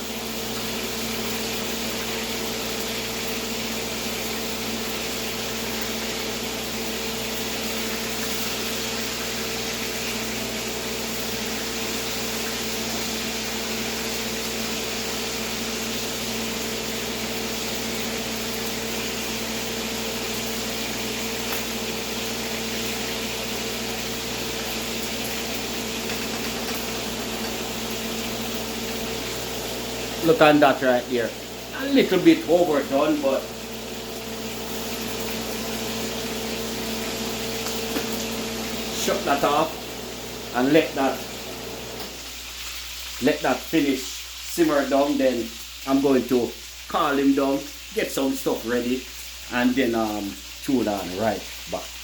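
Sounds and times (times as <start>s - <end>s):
meat sizzling in a pan: 0.0s - 52.0s.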